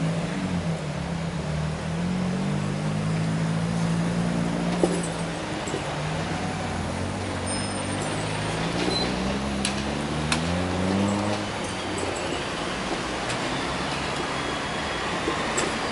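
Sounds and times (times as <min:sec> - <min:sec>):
car engines driving past: 0:00.0 - 0:15.9.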